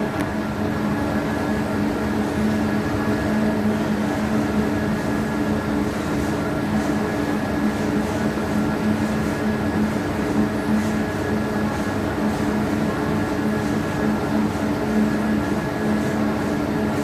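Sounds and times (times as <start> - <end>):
industrial machinery hum: 0.0 - 17.0.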